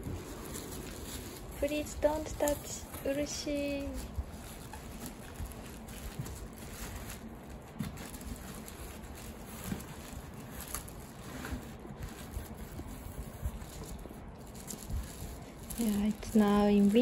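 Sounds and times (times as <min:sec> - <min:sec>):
rustling cloth and tissue paper: 0:00.0 - 0:17.0.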